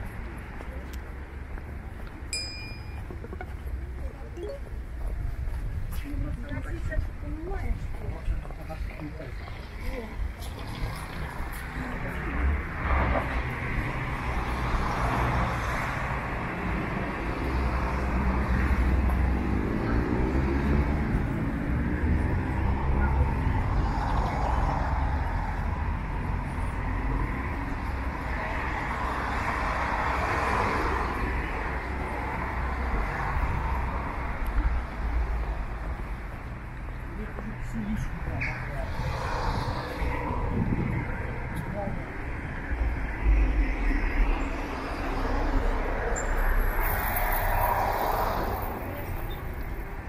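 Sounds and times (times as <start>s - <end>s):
cars passing with tyre noise: 0.0s - 50.0s.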